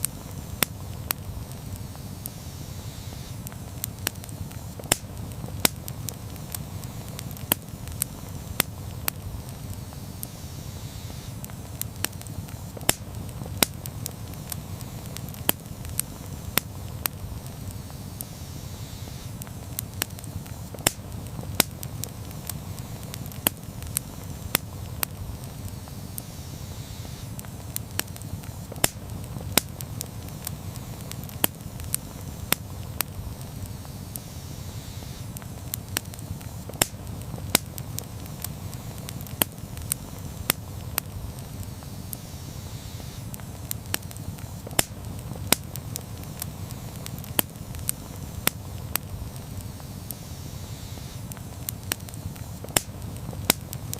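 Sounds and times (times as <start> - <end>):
campfire crackling and popping: 0.0 - 53.9
fire low rumble: 0.0 - 53.9.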